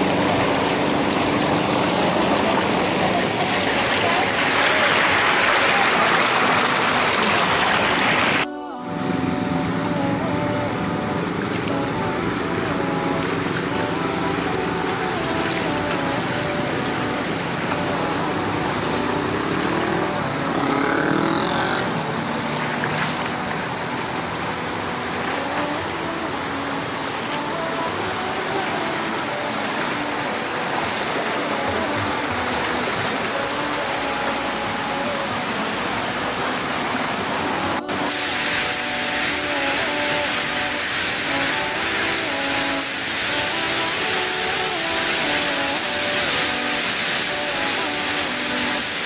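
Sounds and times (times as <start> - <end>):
floodwater rushing and churning: 0.0 - 49.0.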